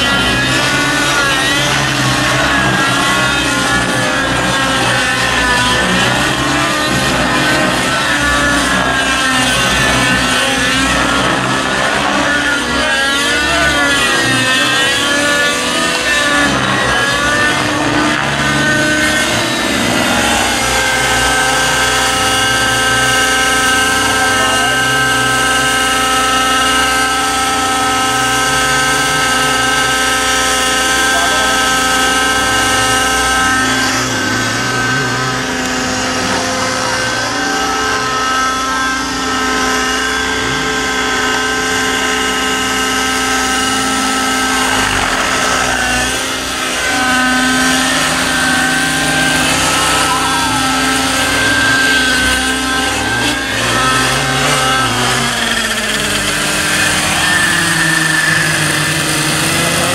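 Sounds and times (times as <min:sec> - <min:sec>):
model helicopter whine: 0:00.0 - 0:59.9.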